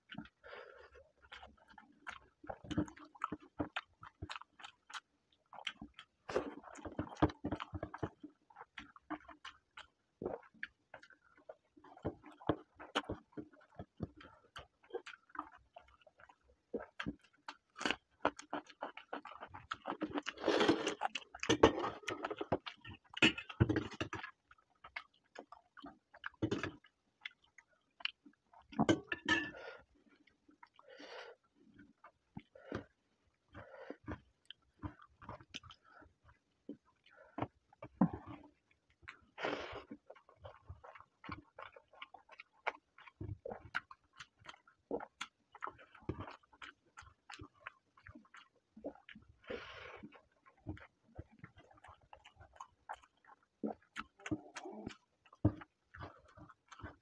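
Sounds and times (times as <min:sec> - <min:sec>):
person chewing and mouth smacking: 0:00.0 - 0:57.0.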